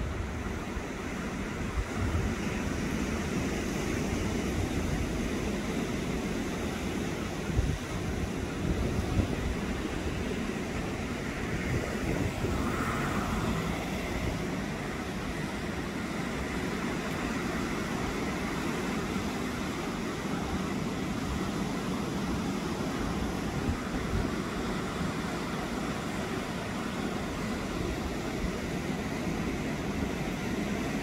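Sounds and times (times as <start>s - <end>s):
sea surf breaking on rocks: 0.0s - 31.0s.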